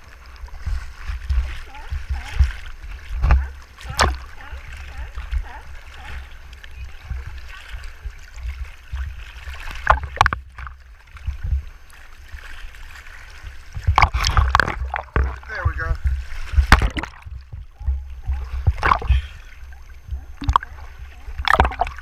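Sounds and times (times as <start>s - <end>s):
low buffeting rumble: 0.0s - 22.0s
sea water sloshing and splashing: 0.0s - 22.0s.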